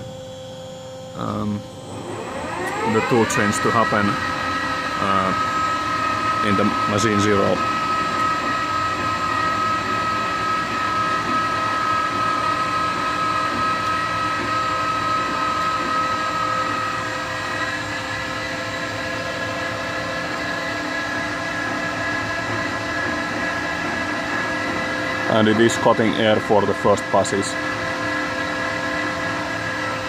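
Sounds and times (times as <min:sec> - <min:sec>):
lathe drives whining: 0:00.0 - 0:30.0
low machine hum: 0:00.0 - 0:30.0.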